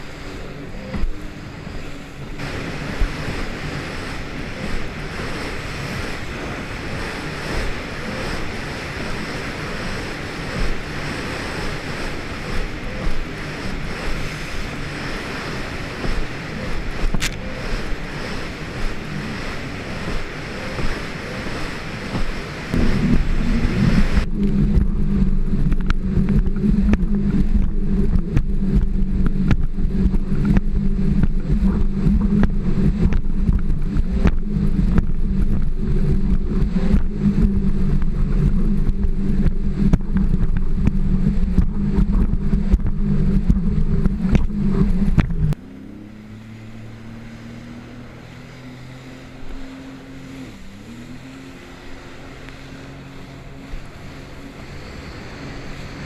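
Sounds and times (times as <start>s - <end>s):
jet ski engine: 0.0s - 56.0s
water: 0.0s - 56.0s
wind buffeting microphone: 0.0s - 56.0s.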